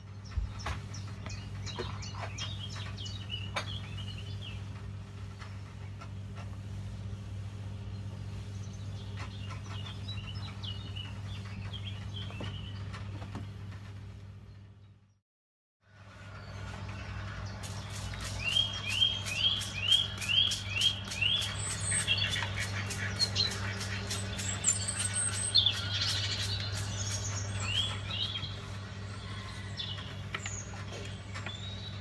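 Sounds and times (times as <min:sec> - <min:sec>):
small birds chirping: 0:00.0 - 0:15.2, 0:16.1 - 0:32.0
steady low hum: 0:00.0 - 0:15.2, 0:15.9 - 0:32.0.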